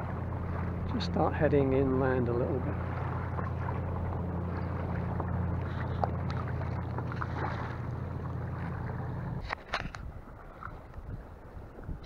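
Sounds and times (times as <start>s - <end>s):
small splashes: 0.0s - 11.0s
water lapping against a kayak: 0.0s - 12.0s
wind rumble on microphone: 0.0s - 12.0s.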